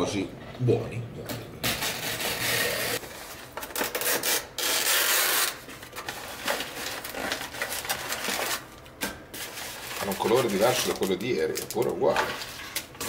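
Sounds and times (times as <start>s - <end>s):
plastic film crinkling and tearing: 1.7s - 13.0s.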